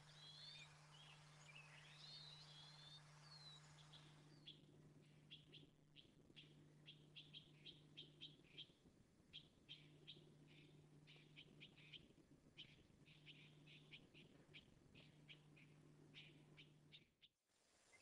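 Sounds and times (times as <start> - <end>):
steady low hum: 0.0 - 17.1.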